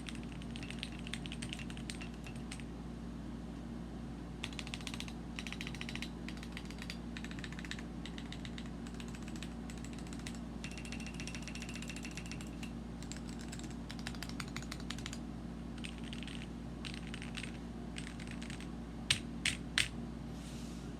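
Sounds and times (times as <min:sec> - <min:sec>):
mechanical keyboard typing: 0:00.0 - 0:02.6, 0:04.4 - 0:15.2, 0:15.8 - 0:19.9.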